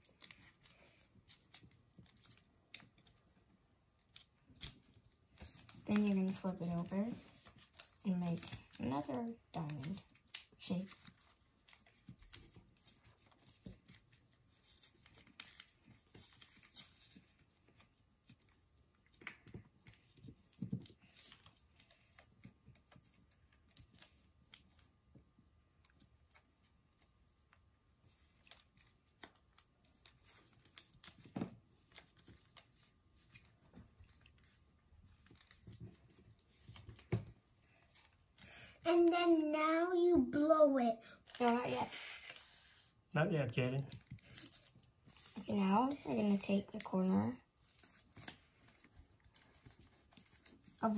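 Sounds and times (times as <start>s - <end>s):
paper crinkling and clicking: 0.0s - 24.9s, 25.8s - 39.7s, 43.8s - 50.9s.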